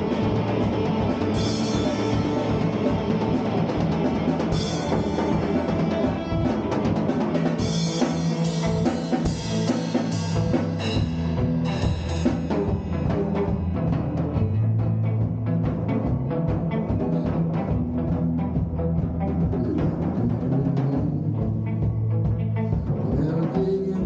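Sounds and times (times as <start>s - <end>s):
drum kit: 0.0s - 24.0s
low electric guitar notes: 0.0s - 24.0s.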